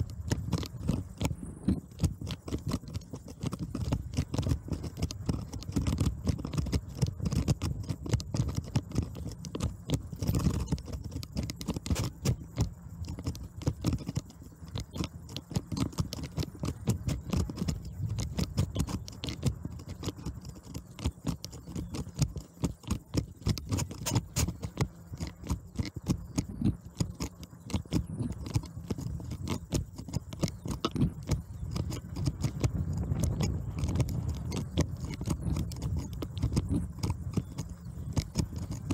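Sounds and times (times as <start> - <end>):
bicycle rattling: 0.0 - 38.9.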